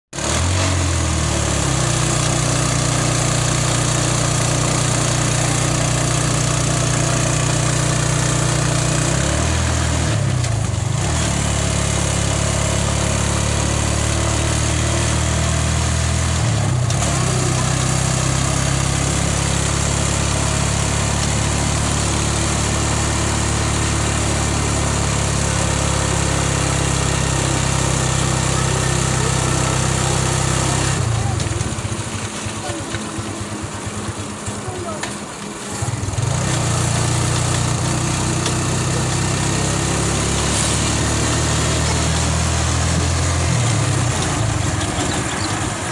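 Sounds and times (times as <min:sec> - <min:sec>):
small vehicle engine running: 0:00.1 - 0:45.9
wind: 0:00.1 - 0:45.9
road hiss: 0:00.2 - 0:45.9.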